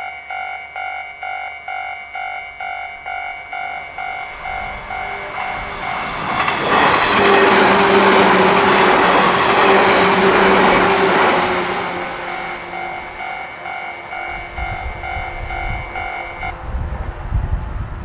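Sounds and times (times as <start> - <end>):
level-crossing warning bell dinging: 0.0 - 16.5
electric train passing: 1.7 - 18.0.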